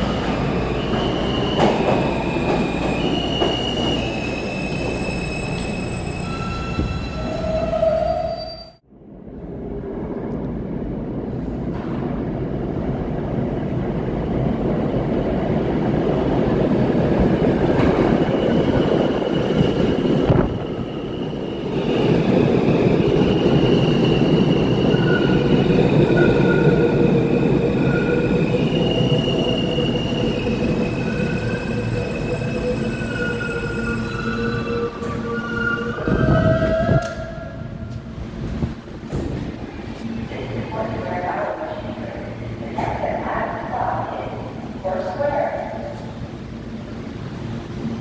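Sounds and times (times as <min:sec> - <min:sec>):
subway train rumble: 0:00.0 - 0:48.0.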